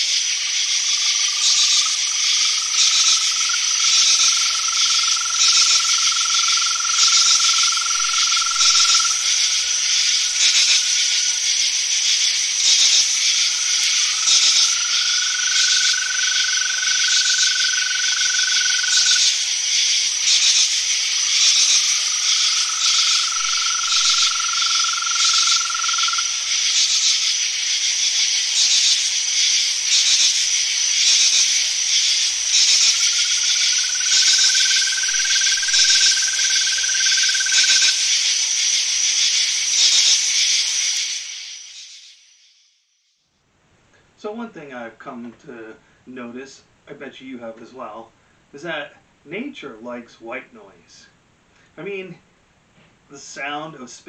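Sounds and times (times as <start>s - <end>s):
crickets chirping: 0.0s - 43.3s.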